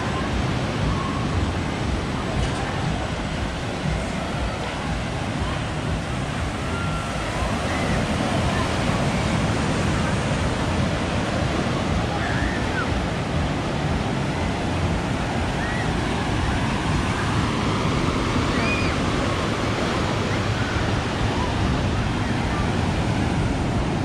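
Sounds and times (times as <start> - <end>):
ocean surf: 0.0 - 24.0
wind noise on microphone: 0.0 - 24.0.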